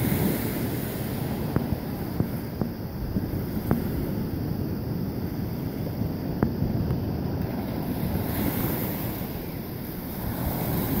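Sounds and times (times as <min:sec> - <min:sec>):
ocean surf washing onto beach: 0:00.0 - 0:11.0
wind buffeting microphone: 0:00.0 - 0:11.0.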